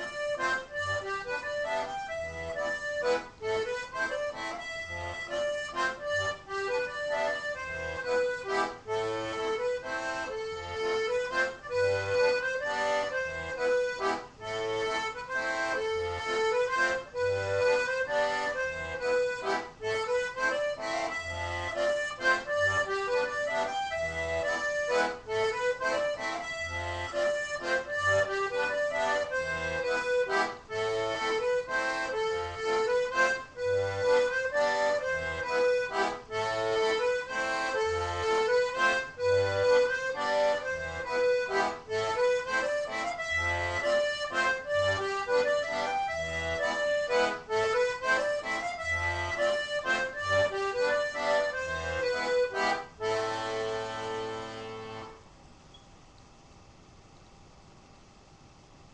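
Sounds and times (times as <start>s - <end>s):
button accordion playing a waltz: 0.0s - 55.3s.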